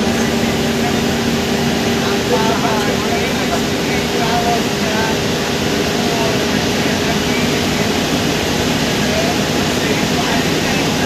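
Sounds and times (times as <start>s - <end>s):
bus diesel engine running: 0.0s - 11.0s
road noise: 0.0s - 11.0s
turbocharger whine: 0.0s - 11.0s.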